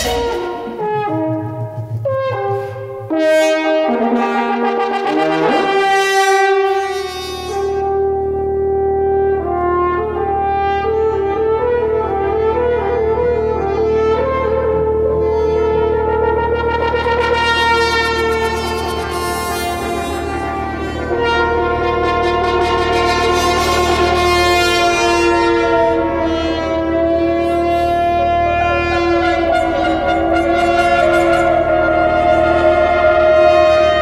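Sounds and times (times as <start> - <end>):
french horns playing: 0.0 - 34.0
low steady drone: 6.7 - 34.0.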